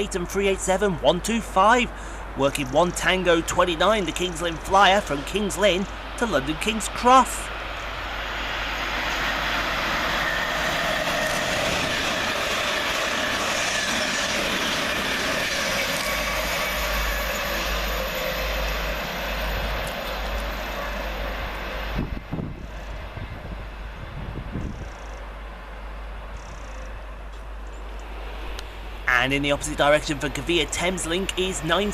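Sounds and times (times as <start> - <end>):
train wheels rolling on rail: 0.0 - 31.9.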